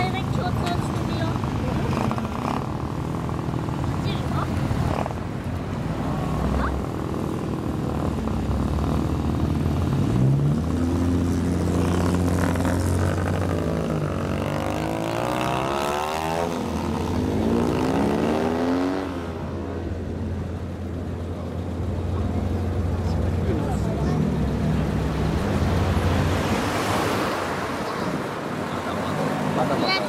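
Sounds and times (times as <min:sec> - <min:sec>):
car engines revving and passing: 0:00.0 - 0:30.0.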